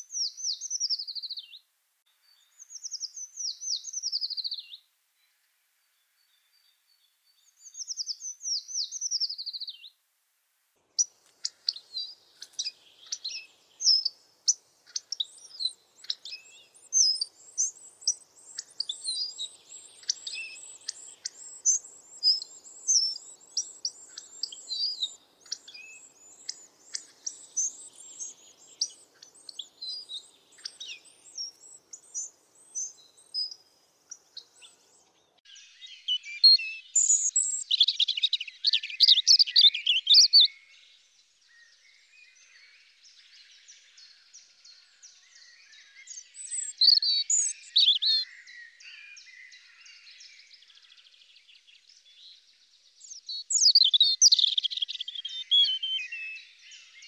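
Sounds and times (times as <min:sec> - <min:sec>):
songbirds chirping and singing: 0:00.0 - 0:05.3, 0:05.9 - 0:10.0, 0:10.9 - 0:57.0.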